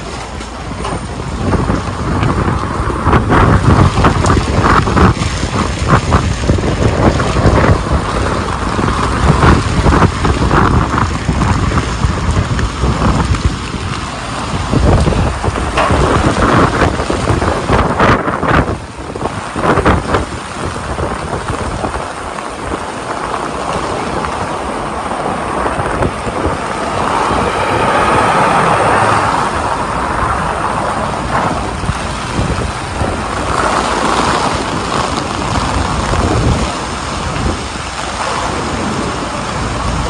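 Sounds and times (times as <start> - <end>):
heavy rain on street: 0.0 - 40.0
traffic on wet pavement: 0.0 - 40.0.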